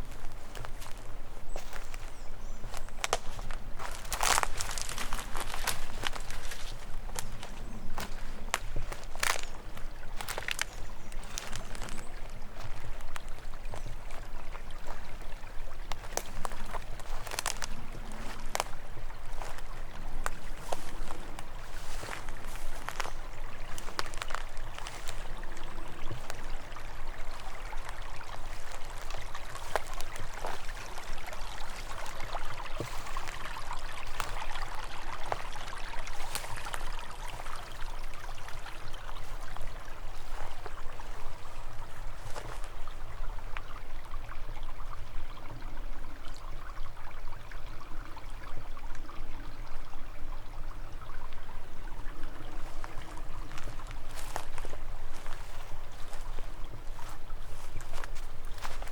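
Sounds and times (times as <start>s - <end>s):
stream trickling over stones: 0.0s - 58.9s.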